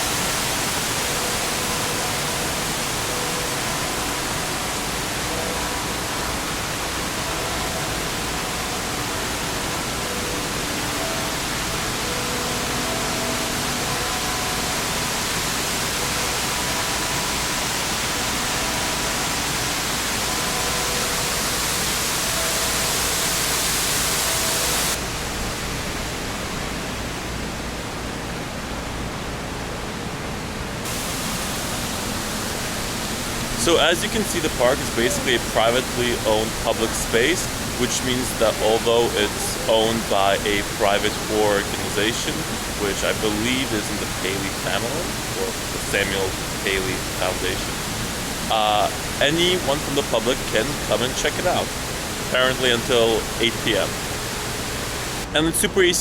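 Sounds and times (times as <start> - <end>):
waterfall falling into basin: 0.0 - 25.0, 30.9 - 55.3.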